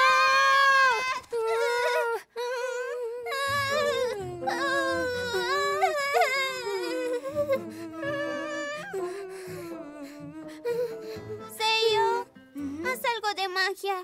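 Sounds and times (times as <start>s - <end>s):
girl whimpering: 0.0s - 13.0s.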